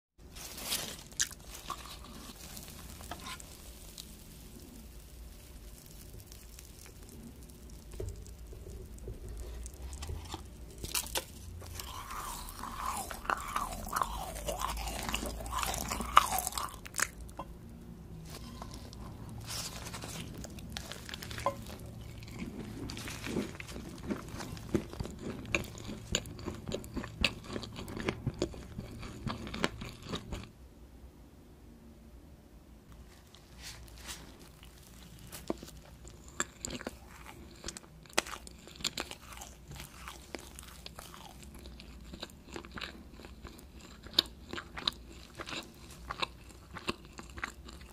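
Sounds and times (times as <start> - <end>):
crisp crunching bites: 0.3 - 17.4, 18.3 - 30.5, 34.1 - 47.9
chewing gummy candy: 0.6 - 17.5, 18.3 - 30.5, 34.3 - 47.9.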